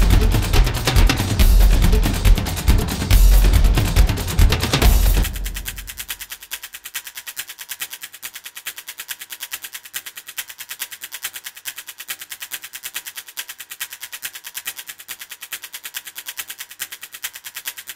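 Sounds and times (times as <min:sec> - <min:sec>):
rapid sharp clicks: 0:00.0 - 0:17.9.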